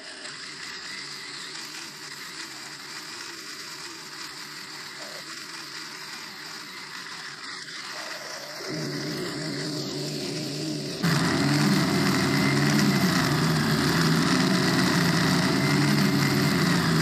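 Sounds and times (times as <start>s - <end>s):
string trimmer engine running: 0.0s - 17.0s
trimmer line cutting grass: 0.0s - 17.0s.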